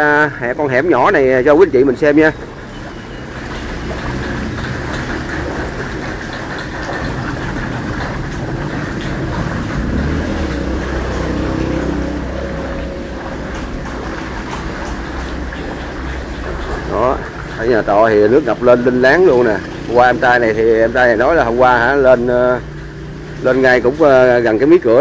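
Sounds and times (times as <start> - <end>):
water sloshing from wading: 0.0 - 25.0.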